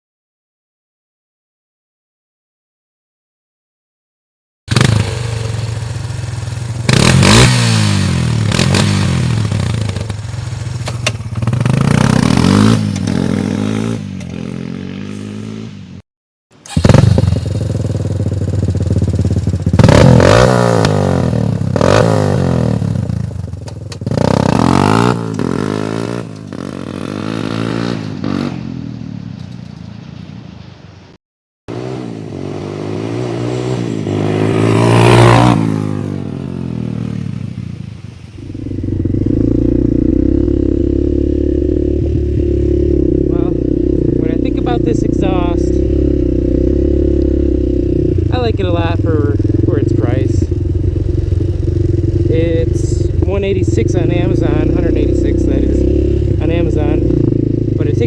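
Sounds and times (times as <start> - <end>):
quad engine revving: 4.7 - 15.7, 16.6 - 28.6, 31.7 - 37.2, 38.4 - 58.0.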